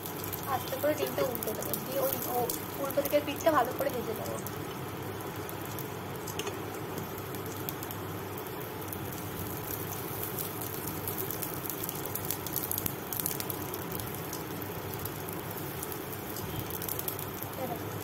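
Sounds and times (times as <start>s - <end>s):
oil sizzling with crackling pops: 0.0s - 18.0s.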